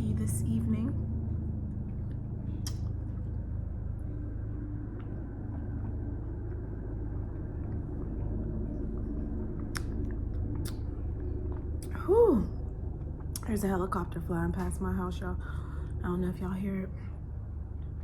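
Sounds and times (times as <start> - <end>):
helicopter rotor rumble: 0.0 - 18.0.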